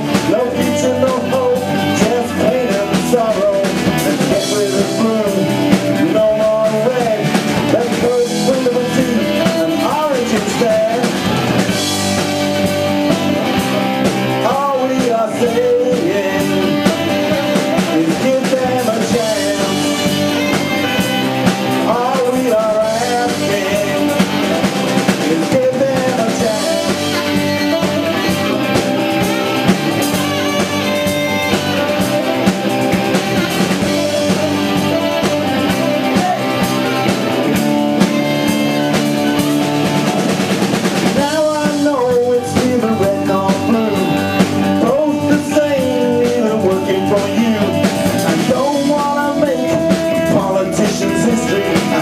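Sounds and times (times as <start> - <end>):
bending lead guitar melody: 0.0 - 52.0
rock band playing: 0.0 - 52.0.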